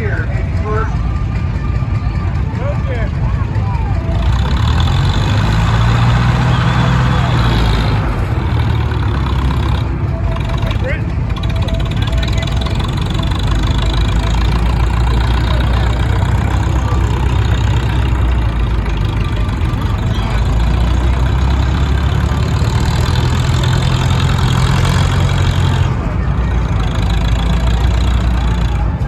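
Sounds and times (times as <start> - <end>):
large tractor engine running: 0.0 - 29.0.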